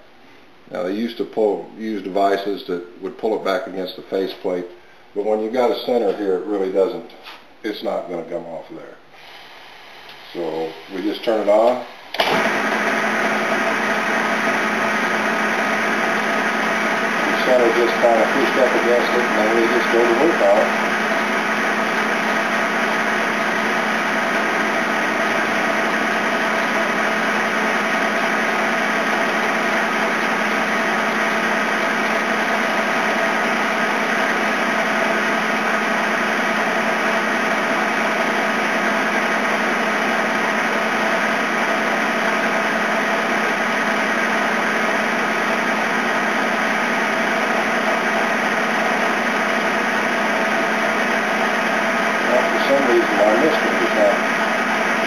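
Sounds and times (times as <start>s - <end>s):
lathe running: 9.2s - 55.0s.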